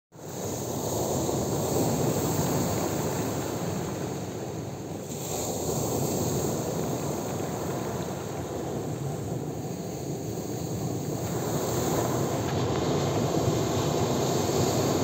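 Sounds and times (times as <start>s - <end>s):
sea surf on pebble beach: 0.2s - 15.0s.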